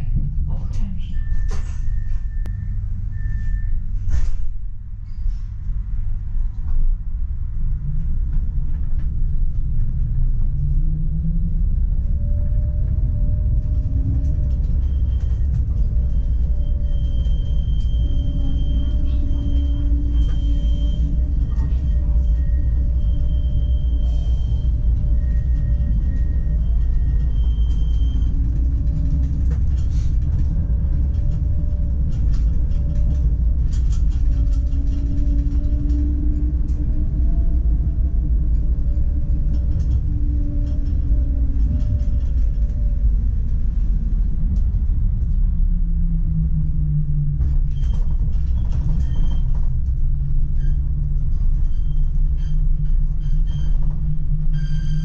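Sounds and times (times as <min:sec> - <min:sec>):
tram rumble and motor hum: 0:00.0 - 0:55.0.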